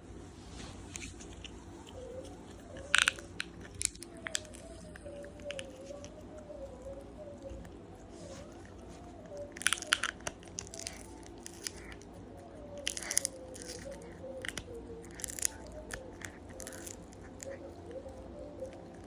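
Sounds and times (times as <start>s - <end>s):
pet crunching a hard snack: 0.8s - 19.0s.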